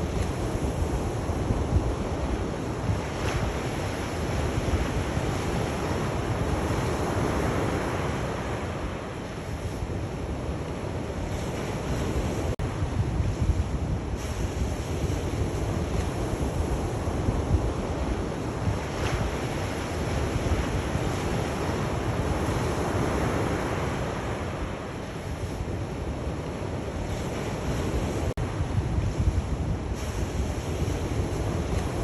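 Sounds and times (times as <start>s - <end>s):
sea waves washing onto shore: 0.0s - 32.0s
wind rumble on microphone: 0.0s - 32.0s.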